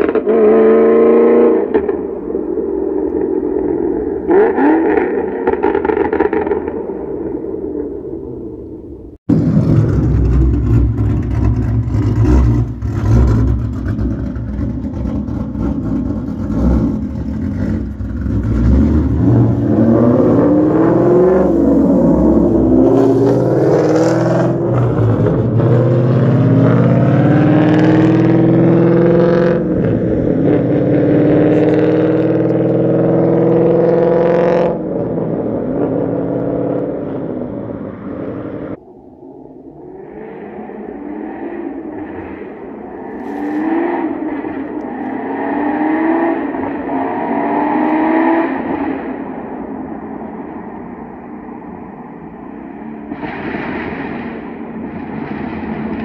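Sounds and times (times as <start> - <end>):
car engine revving: 0.0 - 38.8, 39.7 - 56.0.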